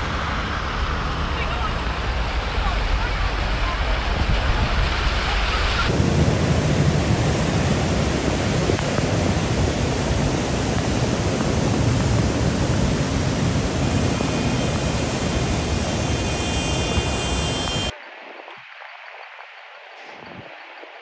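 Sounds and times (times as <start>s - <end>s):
low rumble of engines: 0.0s - 17.9s
traffic driving through floodwater: 0.0s - 17.9s
heavy rain: 0.0s - 21.0s.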